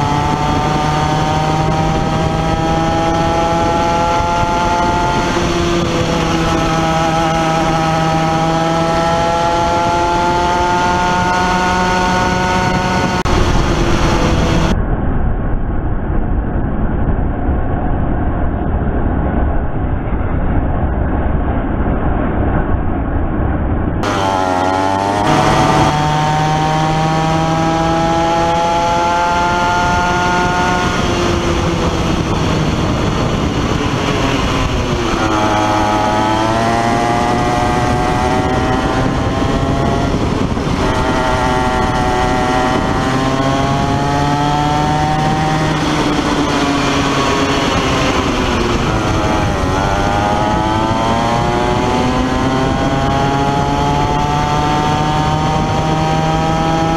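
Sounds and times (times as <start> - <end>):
kart engine revving: 0.0 - 14.8, 24.0 - 56.9
dull muffled rumble: 0.0 - 29.1, 29.8 - 56.8.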